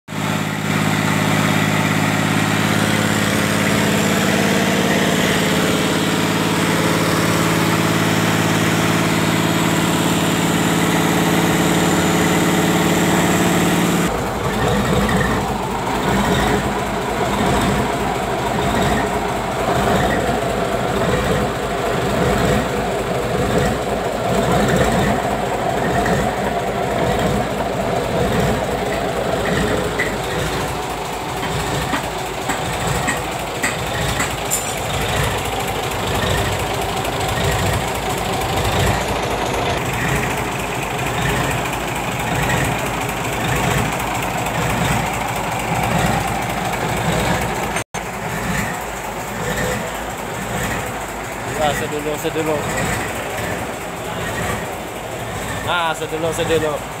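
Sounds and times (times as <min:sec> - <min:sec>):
diesel engine humming: 0:00.1 - 0:57.0
engine clattering and knocking: 0:00.1 - 0:57.0.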